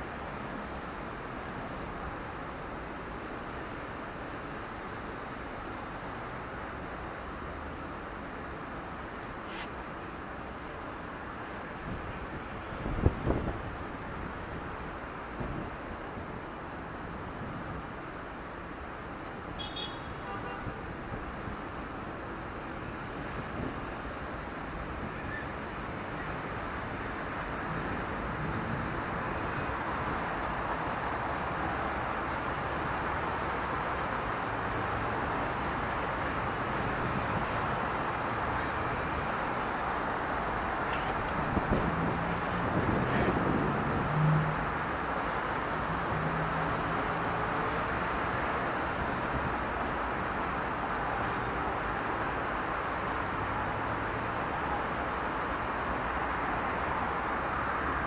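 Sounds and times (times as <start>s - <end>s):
passing cars and tyre noise: 0.0s - 58.0s.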